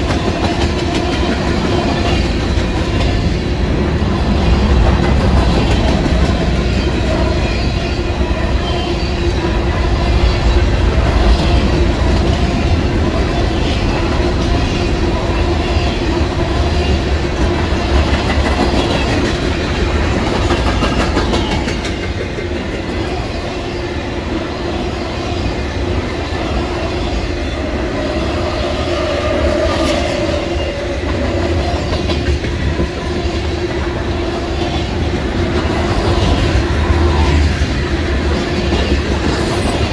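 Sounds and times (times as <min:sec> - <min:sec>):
train wheels clacking on rail joints: 0:00.0 - 0:24.2, 0:26.9 - 0:39.9
loud train rumble: 0:00.0 - 0:39.9.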